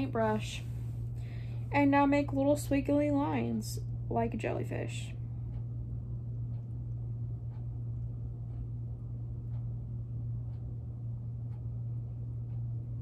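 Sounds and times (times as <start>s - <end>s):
faint ticking: 0.0s - 13.0s
steady low hum: 0.0s - 13.0s.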